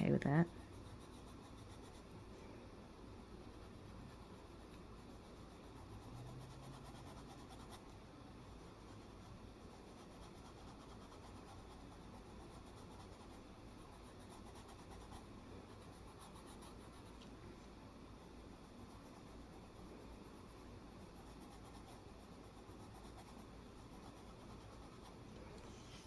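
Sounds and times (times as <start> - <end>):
colored pencil scratching on paper: 0.0 - 2.2, 3.2 - 17.2, 18.3 - 26.0.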